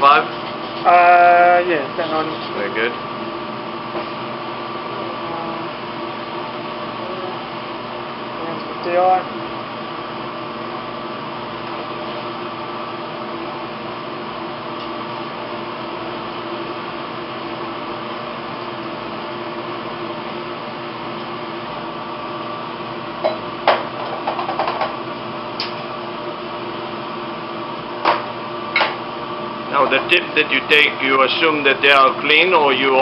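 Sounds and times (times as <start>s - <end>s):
ventilation fan hum: 0.0s - 33.0s.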